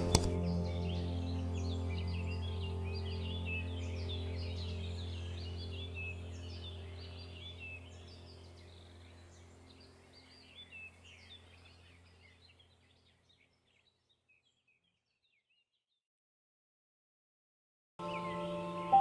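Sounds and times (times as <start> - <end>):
birds chirping: 0.0 - 15.8, 18.0 - 19.0.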